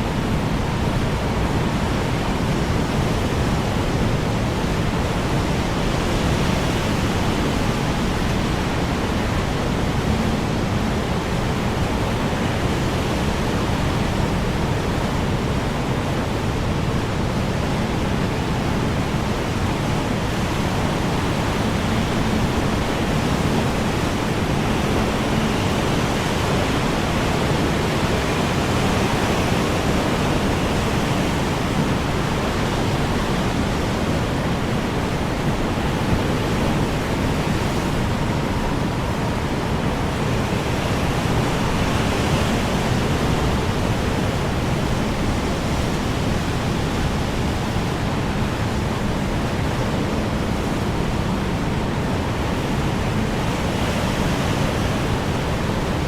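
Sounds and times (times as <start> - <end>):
strong wind blowing: 0.0 - 56.0.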